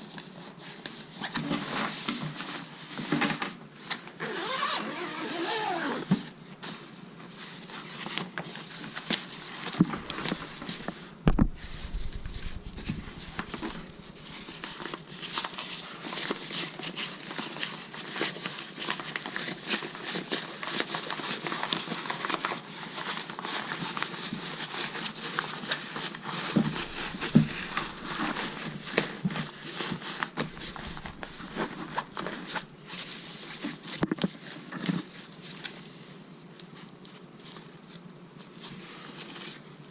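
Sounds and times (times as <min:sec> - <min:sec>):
packaging rustling and crinkling: 0:00.0 - 0:39.9.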